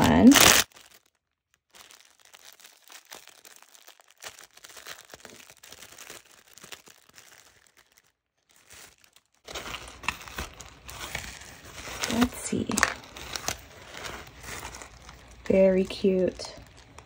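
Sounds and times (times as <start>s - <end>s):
packaging crinkling and rustling: 0.0s - 17.0s.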